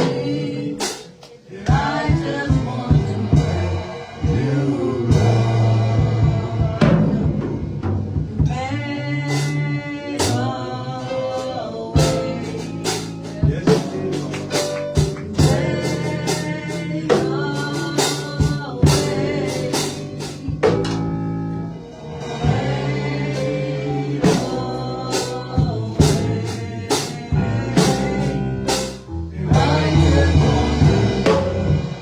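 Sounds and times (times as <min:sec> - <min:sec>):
singing: 0:00.0 - 0:07.4, 0:08.4 - 0:20.8, 0:22.1 - 0:32.0
band with drum kit: 0:00.0 - 0:32.0.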